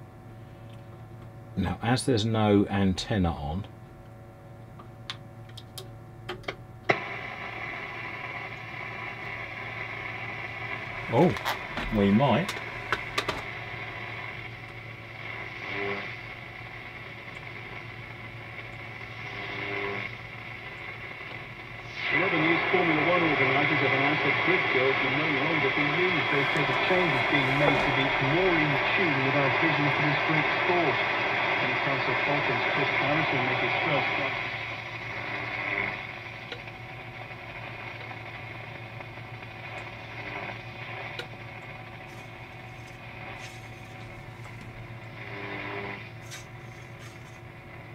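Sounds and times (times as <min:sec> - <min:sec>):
low hum: 0:03.6 - 0:47.9
faint radio signals: 0:06.9 - 0:47.9
radio static hiss: 0:06.9 - 0:47.9.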